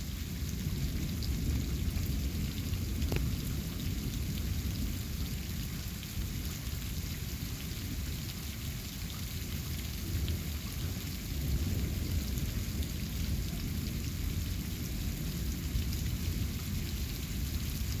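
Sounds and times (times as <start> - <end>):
steady rain falling: 0.0 - 18.0
rumble of thunder: 0.3 - 8.1, 9.9 - 18.0.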